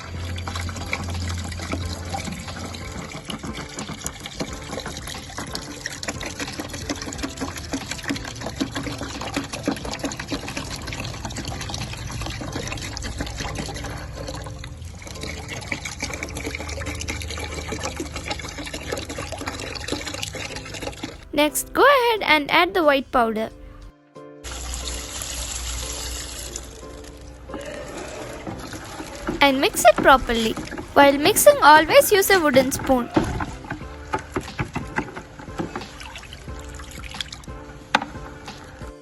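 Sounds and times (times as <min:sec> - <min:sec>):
water pouring into container: 0:00.0 - 0:21.3, 0:24.4 - 0:39.0.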